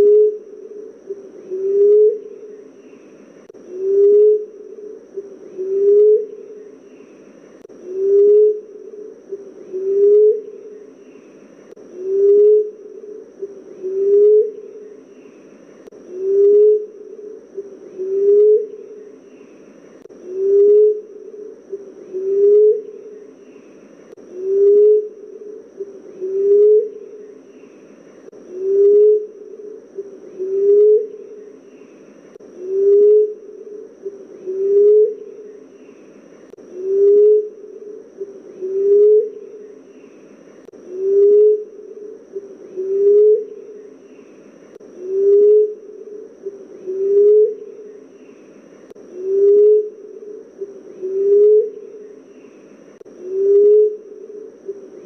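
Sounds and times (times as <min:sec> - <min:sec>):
dove cooing: 0:00.0 - 0:55.0
faint steady high tone: 0:00.0 - 0:55.0.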